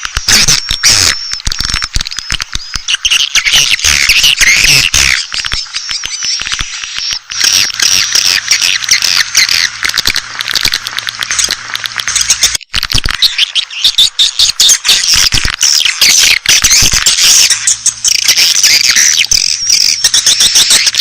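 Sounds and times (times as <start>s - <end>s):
rapid sharp clicks: 0.0s - 21.0s
swiftlets twittering: 0.0s - 21.0s.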